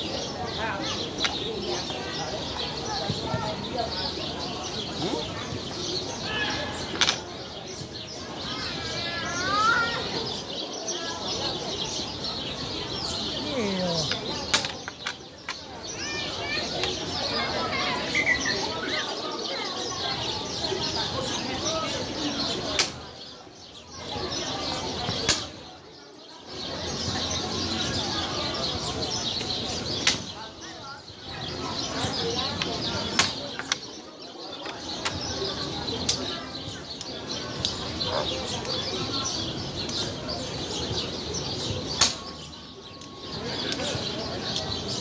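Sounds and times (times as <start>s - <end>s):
murmur of distant voices: 0.0s - 45.0s
small birds chirping: 0.0s - 45.0s.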